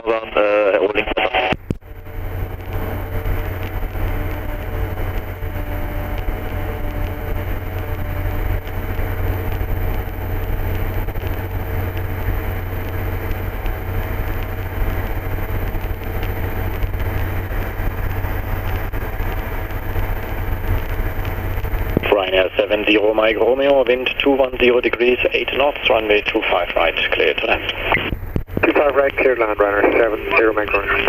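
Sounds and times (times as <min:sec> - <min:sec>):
thin high whine: 0:00.0 - 0:31.0
ultralight engine and propeller drone: 0:00.0 - 0:31.0.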